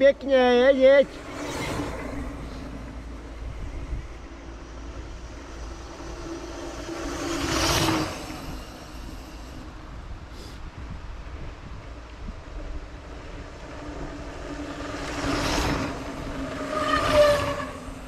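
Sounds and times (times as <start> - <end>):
wind rushing over microphone: 1.0 - 18.0.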